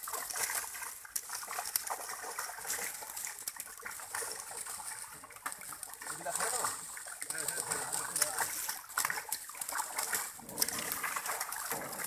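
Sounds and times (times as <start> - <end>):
fish thrashing and splashing: 0.0 - 12.0.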